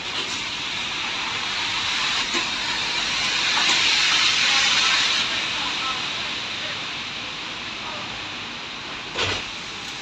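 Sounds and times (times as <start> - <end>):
tram wheels hissing on rail: 0.0 - 10.0.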